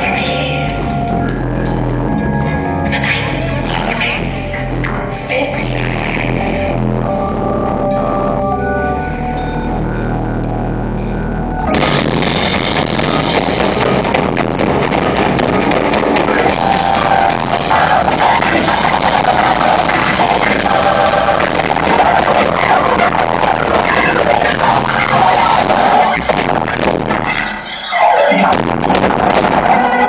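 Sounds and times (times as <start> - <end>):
live rock band playing: 0.0 - 27.5.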